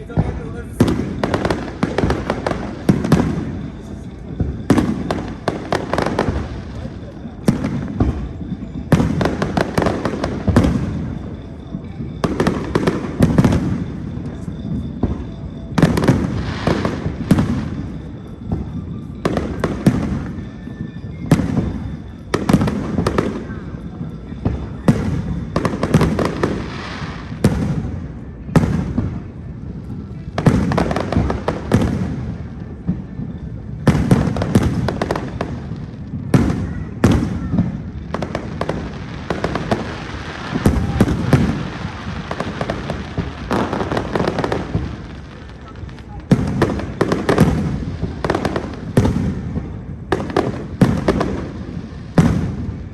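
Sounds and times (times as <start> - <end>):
fireworks bangs: 0.0 - 52.9
fireworks crackling pops: 0.0 - 52.9.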